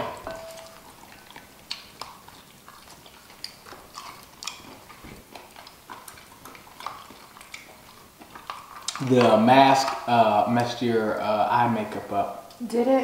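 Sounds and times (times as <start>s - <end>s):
crab shells cracking: 0.2s - 10.8s
chewing: 0.2s - 12.0s.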